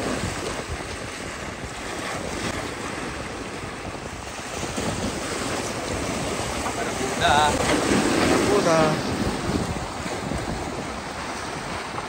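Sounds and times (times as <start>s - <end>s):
sea waves washing over rocks: 0.0s - 12.0s
wind buffeting the microphone: 0.0s - 12.0s.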